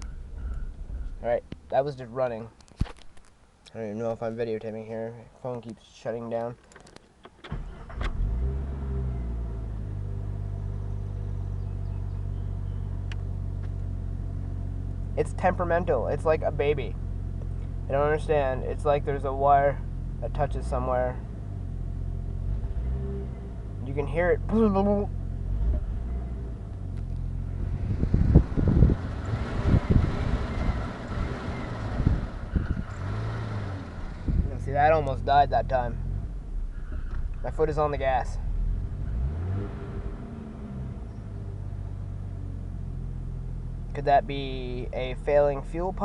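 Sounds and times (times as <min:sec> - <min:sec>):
car engine starting and idling: 0:00.0 - 0:02.7, 0:06.4 - 0:46.0.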